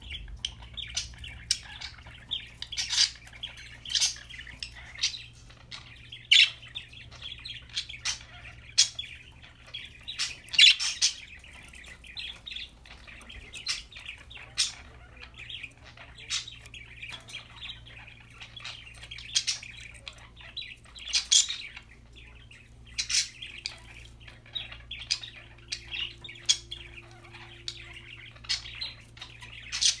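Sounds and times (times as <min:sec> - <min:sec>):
budgerigar chattering: 0:00.0 - 0:30.0.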